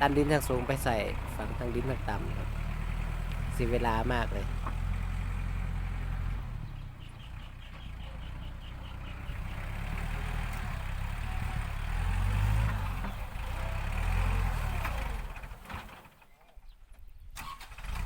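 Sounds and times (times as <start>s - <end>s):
tractor diesel engine running: 0.0s - 16.4s.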